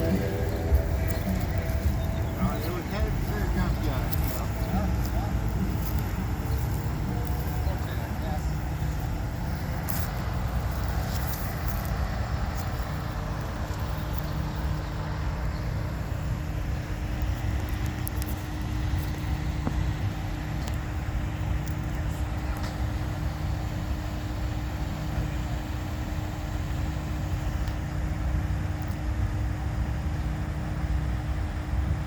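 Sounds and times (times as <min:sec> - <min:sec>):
car engine and road rumble: 0:00.0 - 0:32.0
constant hum: 0:00.0 - 0:32.0.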